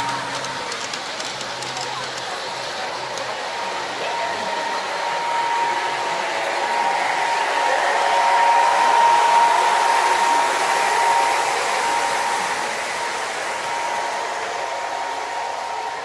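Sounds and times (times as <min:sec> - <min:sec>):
high motor whine: 0:00.0 - 0:16.0
model train rolling hiss: 0:00.0 - 0:16.0.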